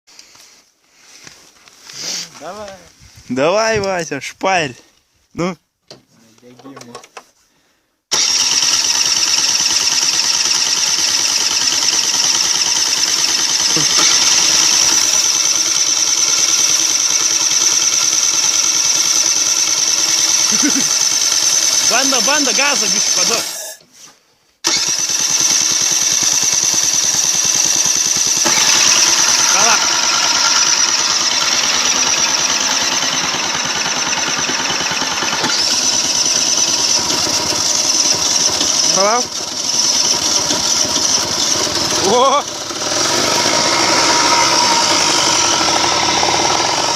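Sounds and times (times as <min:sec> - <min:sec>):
scooter engine buzzing: 0:08.1 - 0:23.8, 0:24.6 - 0:46.9.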